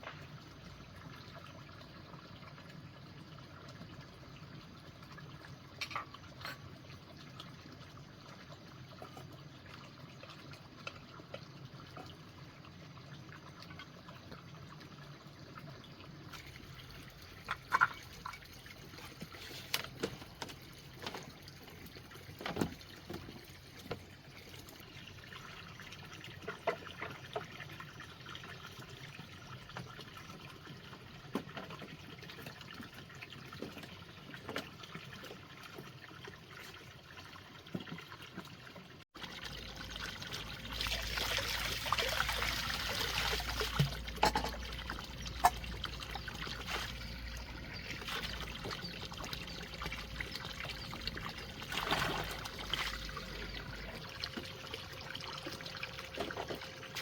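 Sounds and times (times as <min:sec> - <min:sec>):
water trickling: 0:00.1 - 0:57.0.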